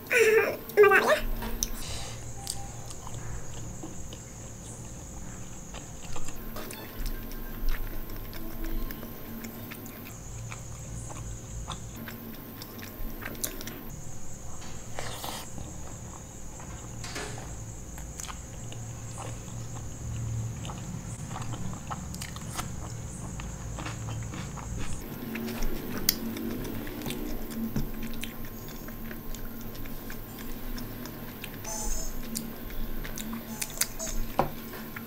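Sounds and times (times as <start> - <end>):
person chewing food: 1.6 - 16.9, 17.9 - 35.0.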